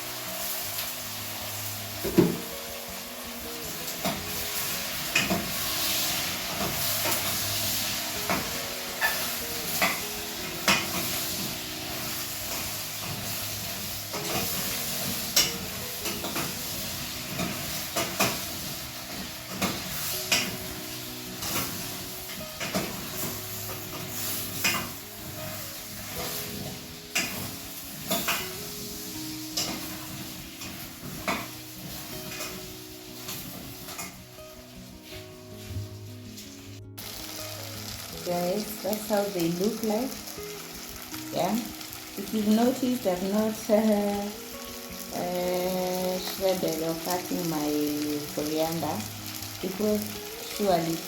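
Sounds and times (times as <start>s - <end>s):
vegetables sizzling in a pot: 0.0s - 51.0s.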